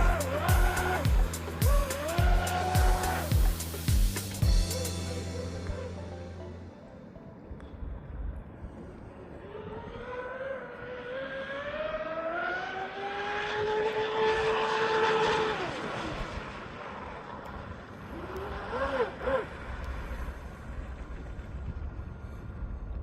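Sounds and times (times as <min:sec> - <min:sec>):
electric boat motor whine: 0:00.0 - 0:13.0, 0:13.6 - 0:22.2.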